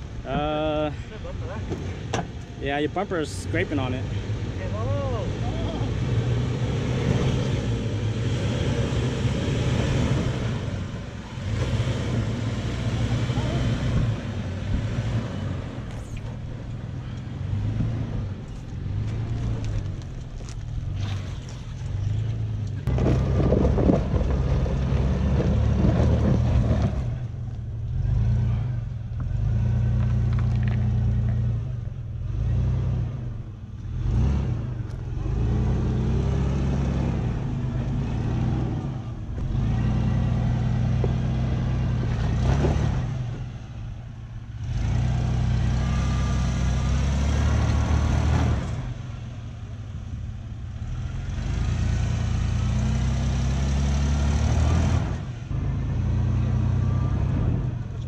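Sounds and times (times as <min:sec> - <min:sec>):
suv engine crawling over rocks: 0:00.0 - 0:58.0.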